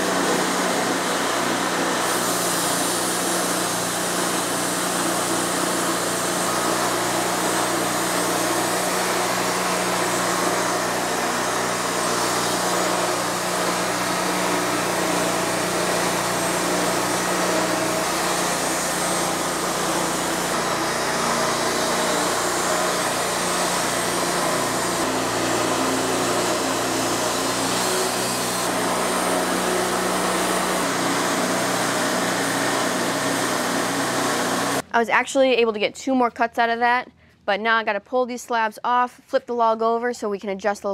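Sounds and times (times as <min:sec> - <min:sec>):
bandsaw mill sawing log: 0:00.0 - 0:34.8.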